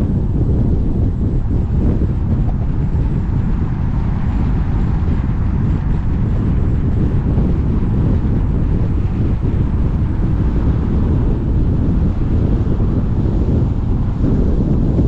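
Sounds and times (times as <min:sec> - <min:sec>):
road and tyre rumble: 0:00.0 - 0:15.0
wind buffeting microphone: 0:00.0 - 0:15.0.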